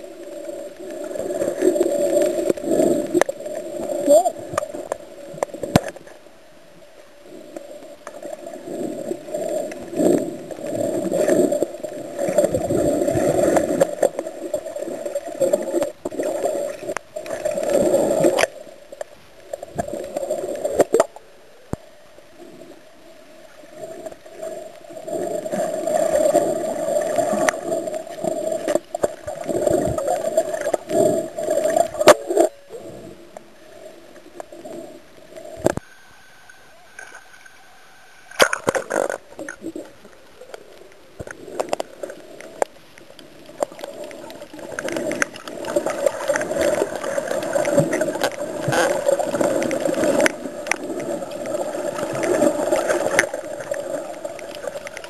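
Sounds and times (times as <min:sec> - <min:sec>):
muffled underwater water swishing: 0:00.0 - 0:55.0.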